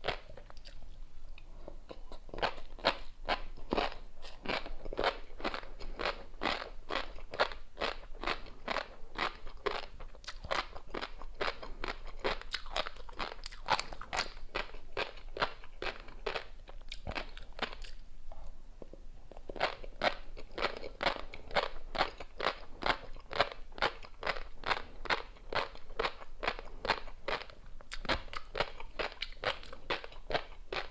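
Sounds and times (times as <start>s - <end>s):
crisp chewing crunches: 0.0s - 18.0s, 19.3s - 30.9s.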